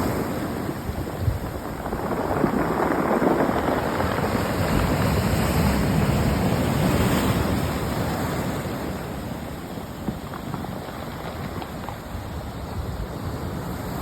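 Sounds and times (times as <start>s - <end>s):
pebbles clattering in the surf: 0.0s - 13.2s
sea waves washing on a beach: 0.0s - 14.0s.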